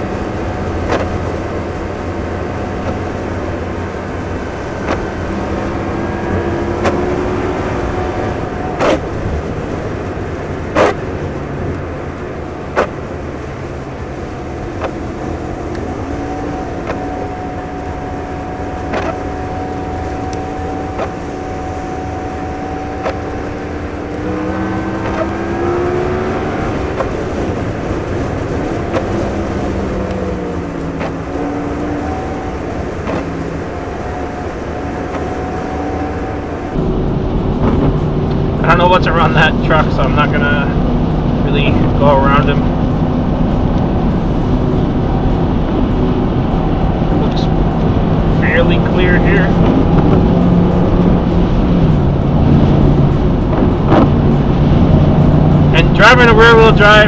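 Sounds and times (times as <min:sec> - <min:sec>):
truck engine and road noise: 0:00.0 - 0:57.0.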